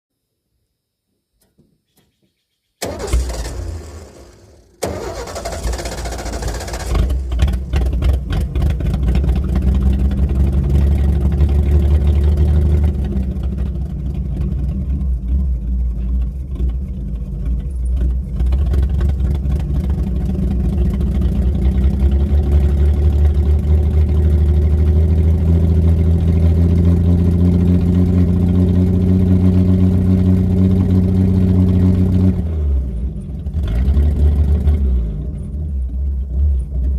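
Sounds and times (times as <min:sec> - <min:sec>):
engine cranking and misfiring: 0:02.8 - 0:36.9.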